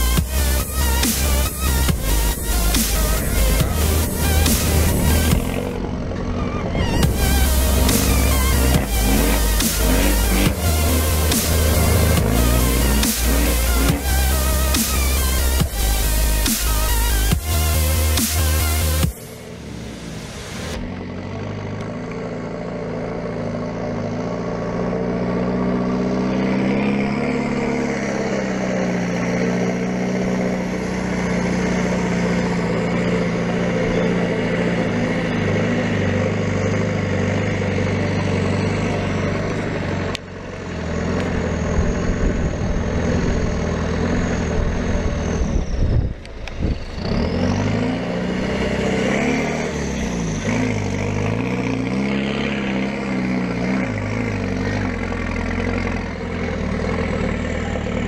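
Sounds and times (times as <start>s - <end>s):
off-road engine running under load: 0.0s - 58.0s.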